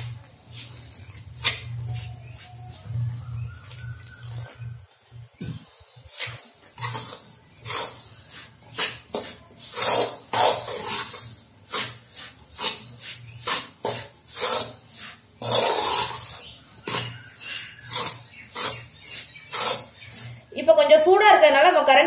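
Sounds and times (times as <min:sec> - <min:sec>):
spoon scraping flour in metal pan: 0:00.0 - 0:03.9, 0:05.5 - 0:20.5.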